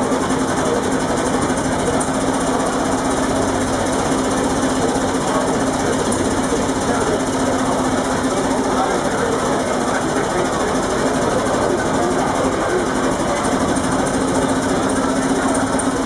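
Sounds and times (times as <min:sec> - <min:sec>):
marine diesel engine clattering: 0:00.0 - 0:16.0.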